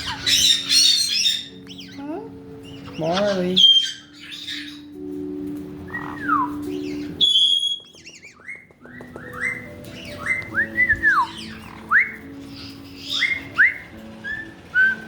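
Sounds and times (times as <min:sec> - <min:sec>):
parrots whistling: 0:00.0 - 0:15.0.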